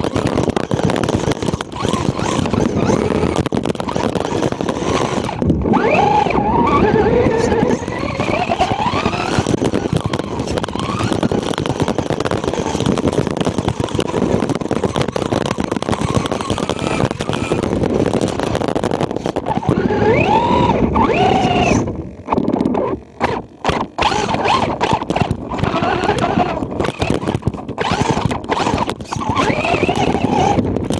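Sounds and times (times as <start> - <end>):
electric motor whining: 0.0 - 30.9
toy truck running over snow: 0.0 - 30.9.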